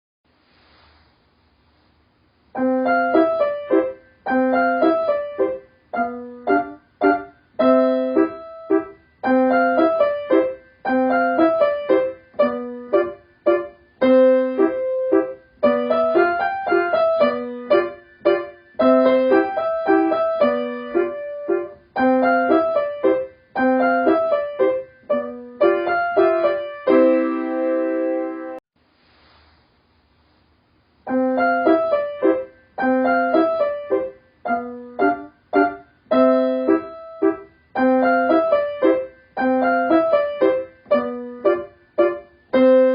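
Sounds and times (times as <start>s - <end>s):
piano music: 2.5s - 28.6s, 31.0s - 42.9s.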